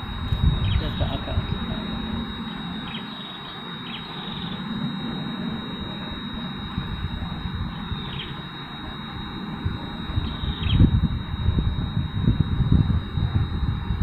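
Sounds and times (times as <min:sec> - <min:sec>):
faint high-pitched tone: 0:00.0 - 0:14.0
outdoor noise: 0:00.0 - 0:14.0
wind rumbling on microphone: 0:00.0 - 0:14.0.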